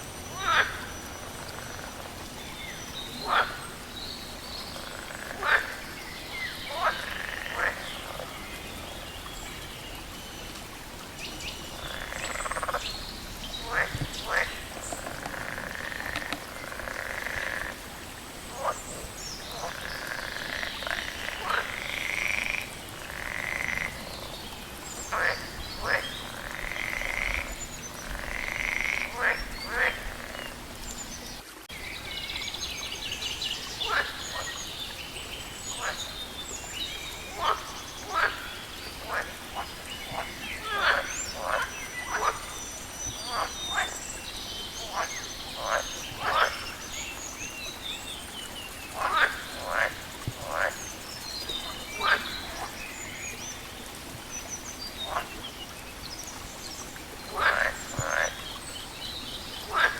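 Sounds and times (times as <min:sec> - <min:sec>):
frogs croaking: 0:00.0 - 0:59.9.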